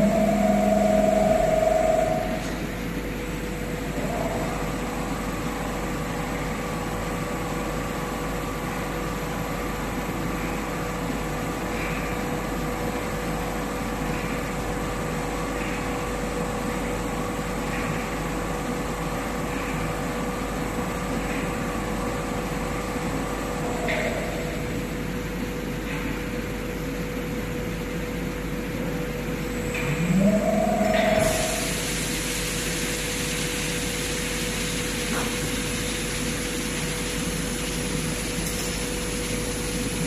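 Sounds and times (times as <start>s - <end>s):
grinding machine hum: 0.0s - 40.0s
machine whine: 0.0s - 40.0s.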